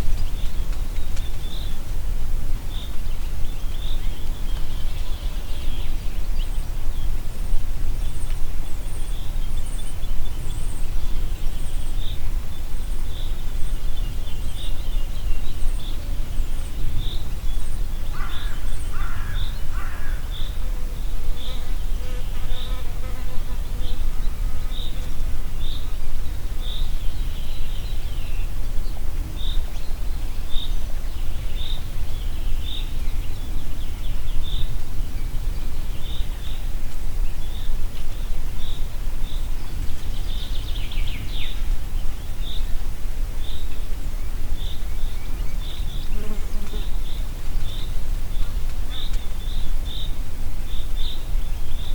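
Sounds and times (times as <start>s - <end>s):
birds singing: 0.0s - 1.9s, 2.5s - 51.9s
wind blowing through forest: 0.0s - 51.9s.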